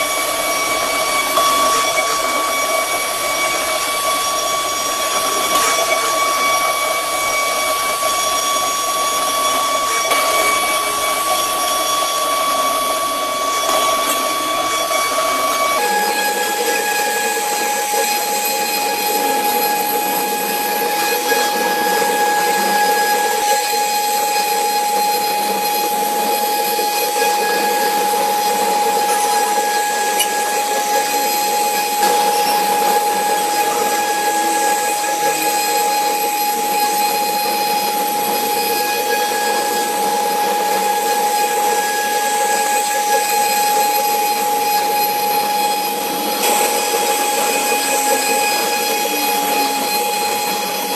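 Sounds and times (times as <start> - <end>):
cnc router whining and cutting: 0.0 - 50.9.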